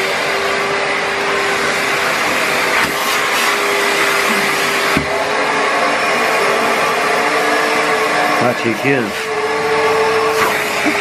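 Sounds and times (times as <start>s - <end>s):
suction tool on sofa cushion: 0.0s - 11.0s
vacuum motor humming: 0.0s - 11.0s.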